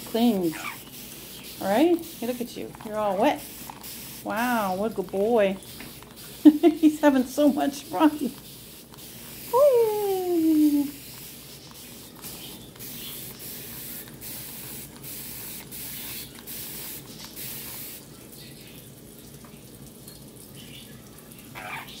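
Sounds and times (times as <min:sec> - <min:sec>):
parrot splashing and flapping: 0:00.0 - 0:18.2.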